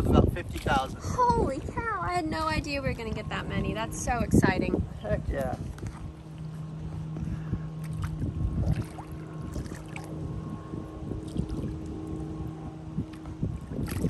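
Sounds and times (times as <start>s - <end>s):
water splashing and sloshing: 0.0s - 4.6s, 5.3s - 14.0s.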